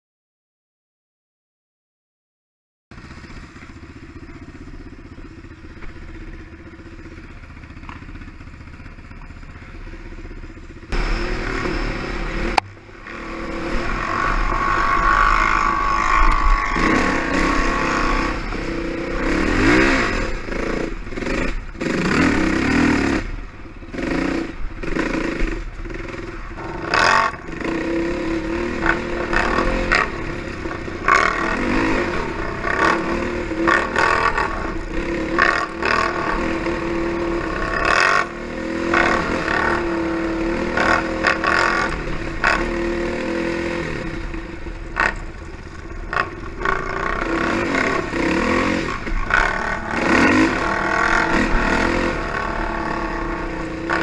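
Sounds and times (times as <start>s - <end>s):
atv engine revving: 3.0s - 54.0s.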